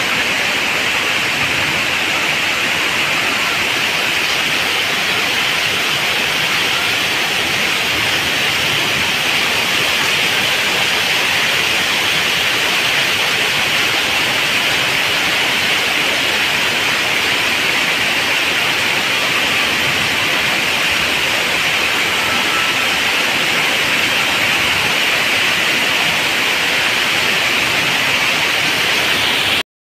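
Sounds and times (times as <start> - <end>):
heavy rain on standing water: 0.0 - 29.6.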